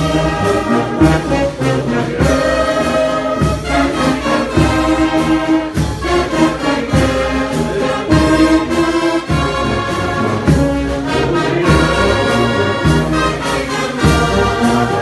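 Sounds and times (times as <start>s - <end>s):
low drum beat: 0.0s - 15.0s
trombones and trumpets holding chords: 0.0s - 15.0s.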